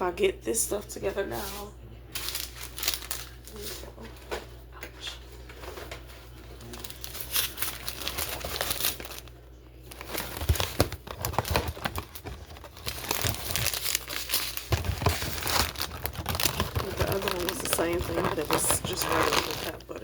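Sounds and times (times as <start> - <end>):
plastic packaging crinkling: 2.2 - 4.4, 5.5 - 20.0.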